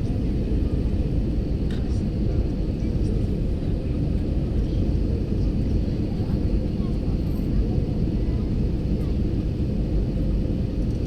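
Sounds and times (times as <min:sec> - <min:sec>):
aeroplane engines rumbling: 0:00.0 - 0:11.0.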